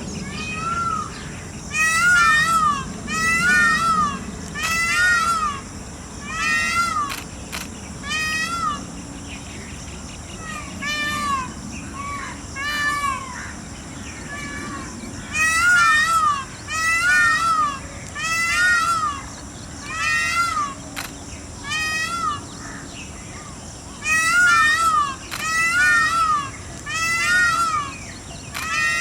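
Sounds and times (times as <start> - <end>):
peafowl calling: 0.3 - 8.9, 14.2 - 29.0.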